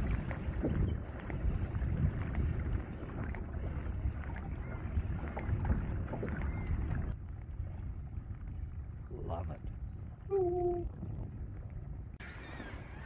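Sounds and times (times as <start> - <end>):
waves lapping against a kayak hull: 0.0 - 13.0
wind buffeting microphone: 0.0 - 13.0.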